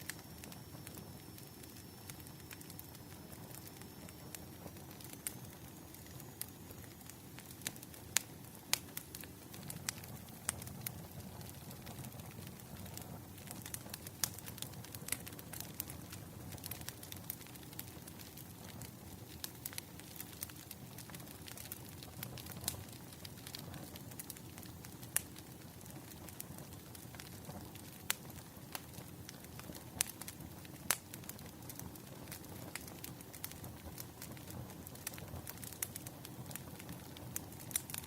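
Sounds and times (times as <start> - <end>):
firewood burning and crackling: 0.0 - 38.0.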